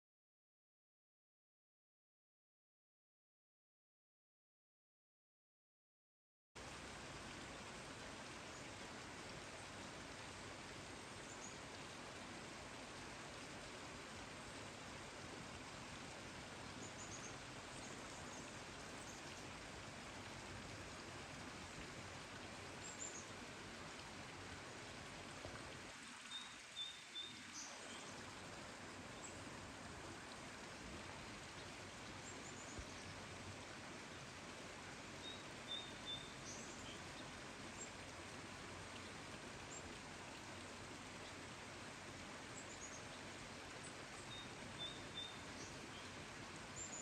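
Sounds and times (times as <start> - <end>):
steady rain falling: 6.6 - 47.0.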